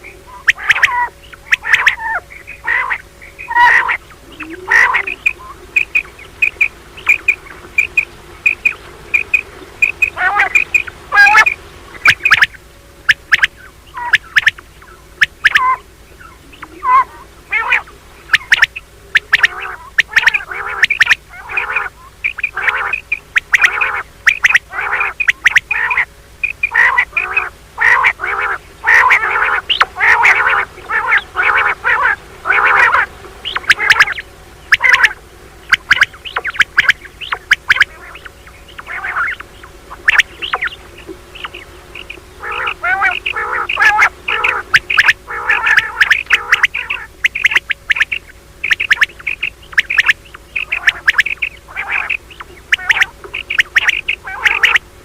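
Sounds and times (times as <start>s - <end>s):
quail calling: 0.0s - 55.0s.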